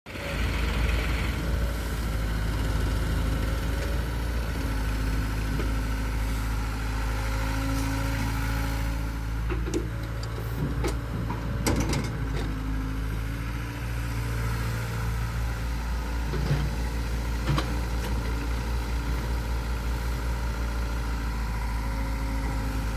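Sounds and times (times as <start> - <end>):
heavy diesel engine running: 0.1 - 22.9.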